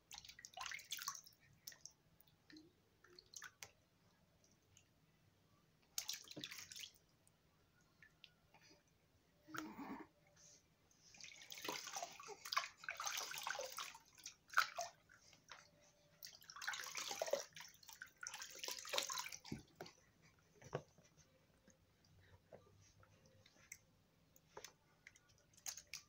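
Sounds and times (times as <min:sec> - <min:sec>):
water sloshing in baby bathtub: 0:00.0 - 0:04.0, 0:05.8 - 0:07.2, 0:09.4 - 0:26.0.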